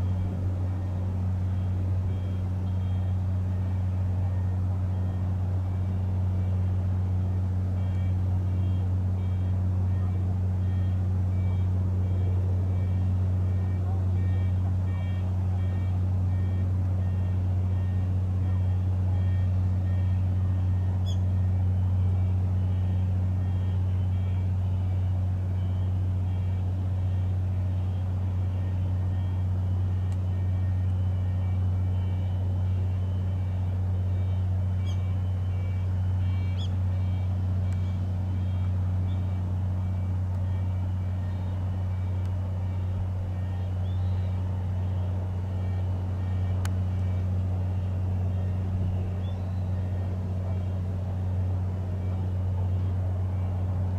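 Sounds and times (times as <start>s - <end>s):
faint high-pitched whine: 0.0s - 53.9s
helicopter engine drone: 0.0s - 53.9s.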